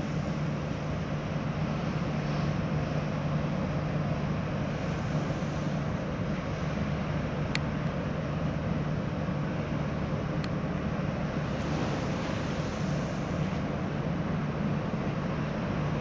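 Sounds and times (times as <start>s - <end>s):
ferry engines droning: 0.0s - 16.0s.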